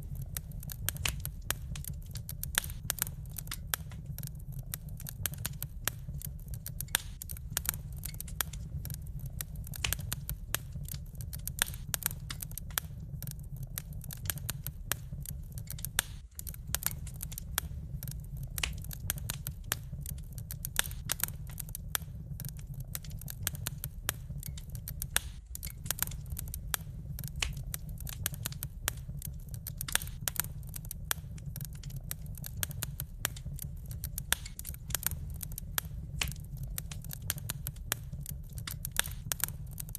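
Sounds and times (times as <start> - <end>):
low rumble of fire: 0.0 - 39.9
wood fire crackling: 0.0 - 39.9.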